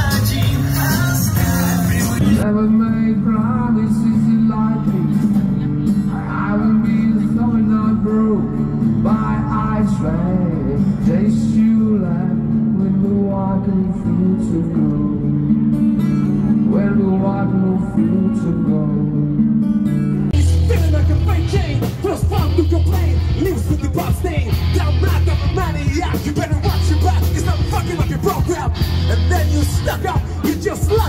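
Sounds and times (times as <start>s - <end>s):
person singing: 0.0s - 15.2s, 20.4s - 31.0s
acoustic guitar strumming: 0.0s - 31.0s
band music with heavy bass: 0.0s - 31.0s.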